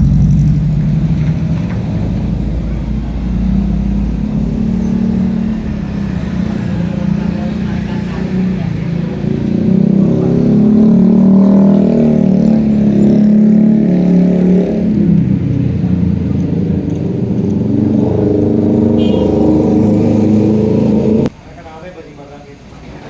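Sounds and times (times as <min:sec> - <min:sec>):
vehicle engine running: 0:00.0 - 0:21.3.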